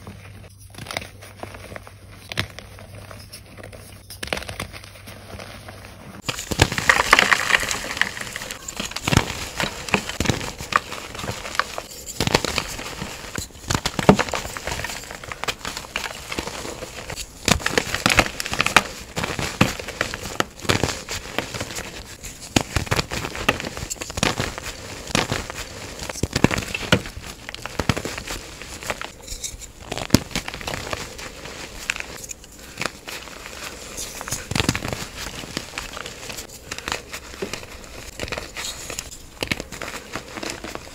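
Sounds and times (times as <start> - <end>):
chalk crumbling between fingers: 6.2 - 40.9.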